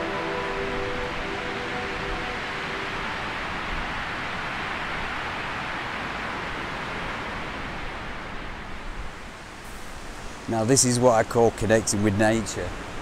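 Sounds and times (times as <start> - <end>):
wind rushing through treetops: 0.0 - 13.0.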